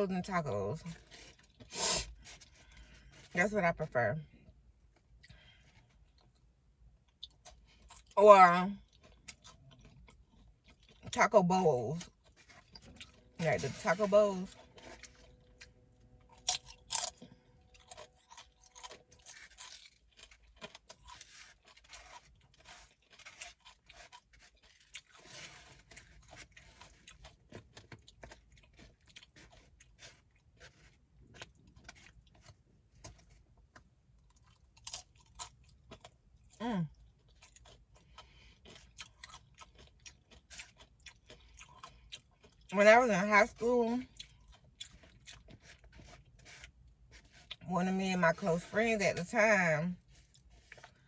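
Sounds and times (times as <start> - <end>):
chewing crisp food: 5.0 - 49.3, 49.9 - 51.0.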